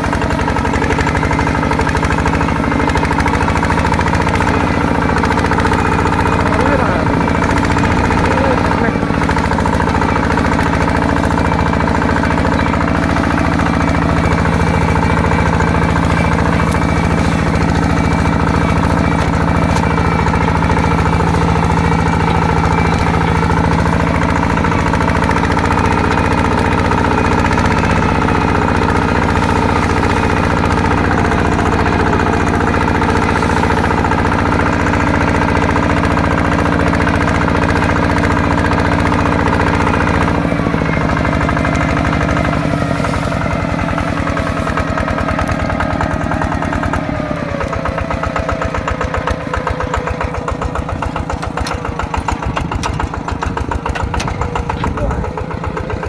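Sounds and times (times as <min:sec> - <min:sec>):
small diesel engine running: 0:00.0 - 0:56.0.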